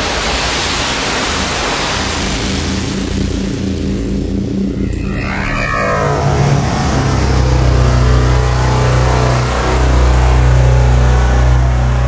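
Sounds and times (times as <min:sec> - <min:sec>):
deep rumble with hiss: 0:00.0 - 0:12.0.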